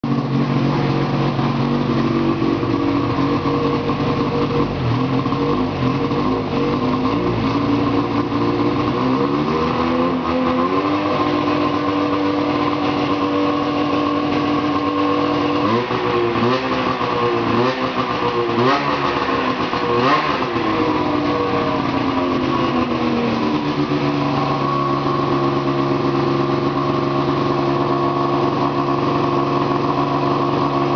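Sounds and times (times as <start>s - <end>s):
snowmobile engine revving and idling: 0.0s - 30.9s.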